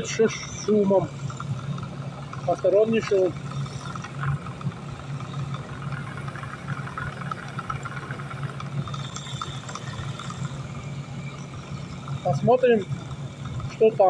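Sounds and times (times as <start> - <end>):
circulation pump humming: 0.0 - 14.0
pump rattling: 0.0 - 14.0.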